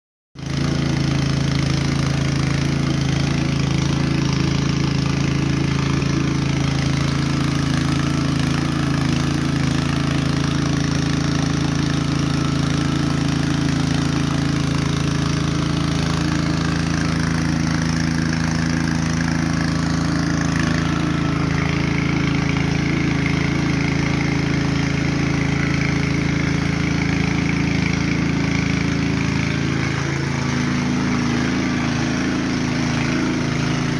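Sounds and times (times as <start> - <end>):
engine idling: 0.4 - 33.9.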